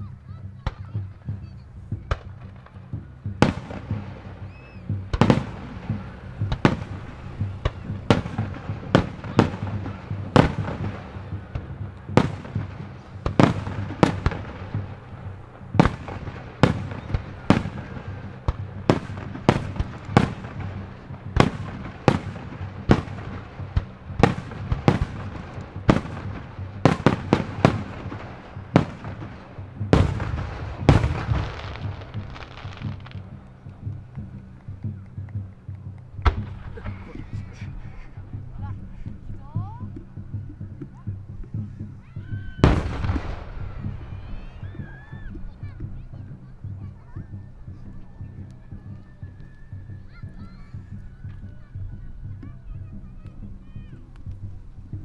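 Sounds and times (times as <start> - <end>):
fireworks bursting with echo: 0.5 - 46.1.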